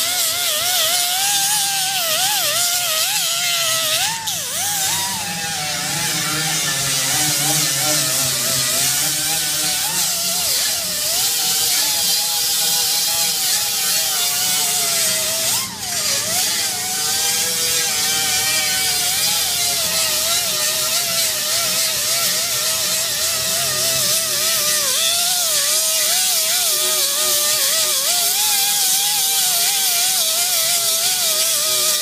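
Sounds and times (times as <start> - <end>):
pneumatic grinder grinding metal: 0.0 - 32.0.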